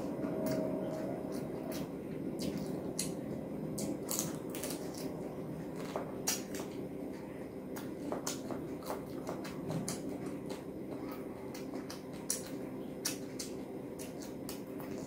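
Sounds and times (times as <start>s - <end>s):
person chewing with mouth clicks: 0.0s - 15.0s.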